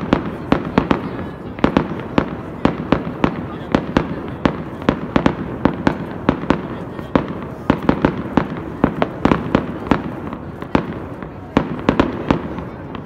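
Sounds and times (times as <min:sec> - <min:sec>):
distant fireworks bangs: 0:00.0 - 0:13.0
firecrackers banging: 0:00.0 - 0:13.0.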